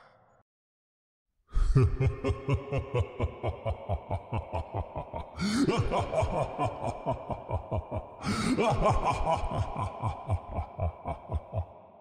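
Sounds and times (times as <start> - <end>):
creepy evil laugh: 1.5 - 12.0.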